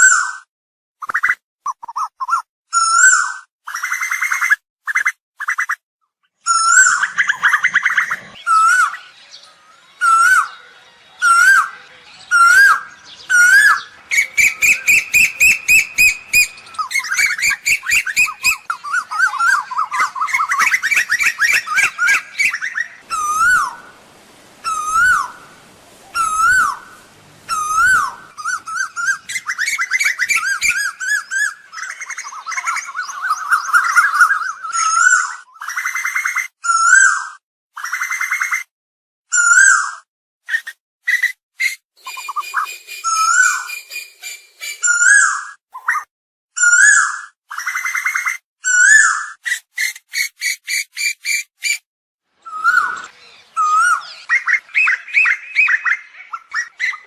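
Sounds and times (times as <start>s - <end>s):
bird calling loudly: 6.4s - 37.2s, 39.3s - 51.8s, 52.4s - 57.0s.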